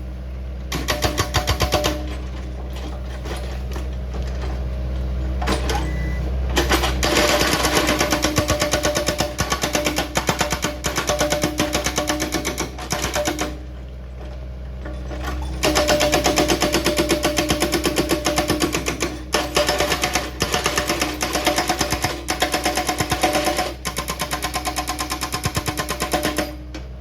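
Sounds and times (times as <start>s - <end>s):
hydraulic rock breaker hammering rock: 0.7s - 27.0s.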